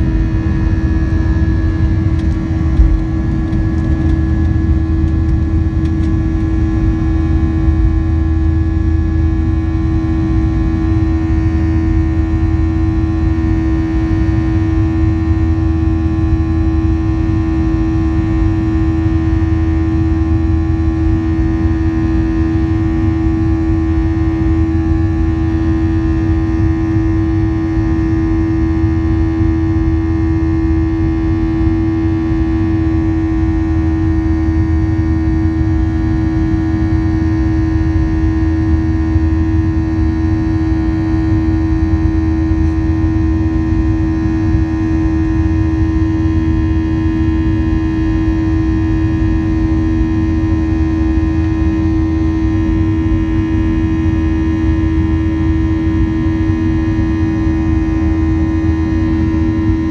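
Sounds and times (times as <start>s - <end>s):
jet engine drone at takeoff: 0.0s - 59.9s.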